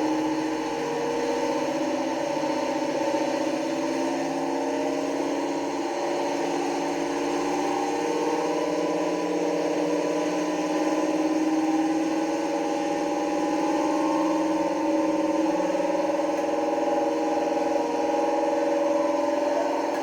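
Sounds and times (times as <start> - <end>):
locomotive engine through small speaker: 0.0 - 20.0.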